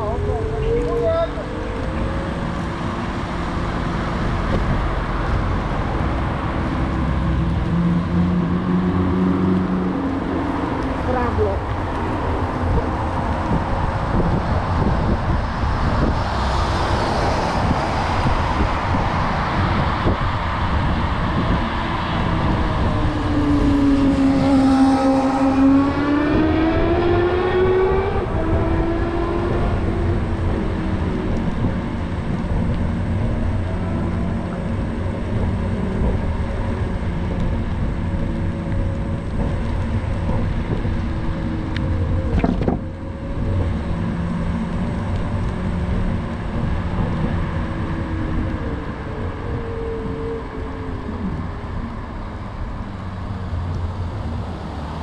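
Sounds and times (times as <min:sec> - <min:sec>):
scooter rumble: 0:00.0 - 0:55.0
wind noise: 0:00.0 - 0:55.0.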